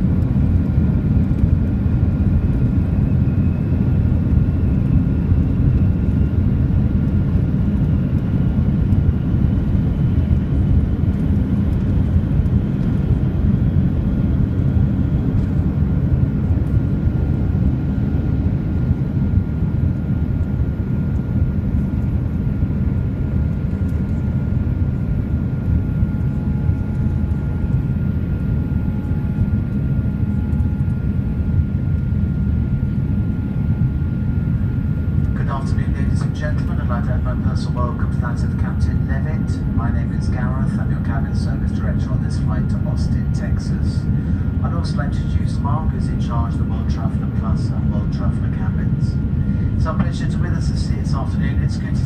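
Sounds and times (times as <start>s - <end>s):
airplane cabin roar: 0.0s - 52.0s
thin steady whine: 0.0s - 52.0s.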